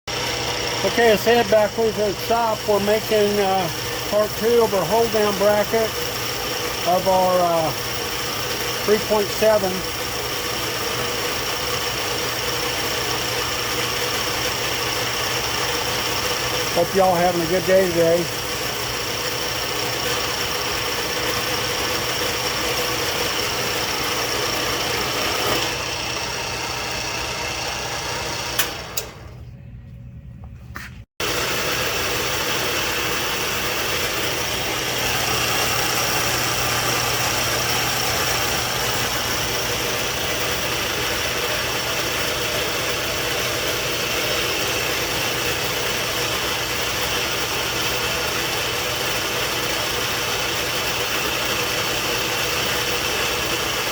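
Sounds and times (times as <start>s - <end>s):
machine motor hum with whine: 0.1s - 30.6s, 31.2s - 53.9s.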